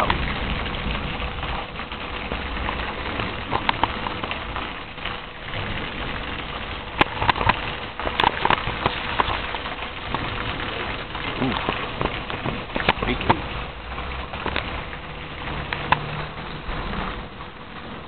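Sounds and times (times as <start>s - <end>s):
rain hissing: 0.0s - 18.0s.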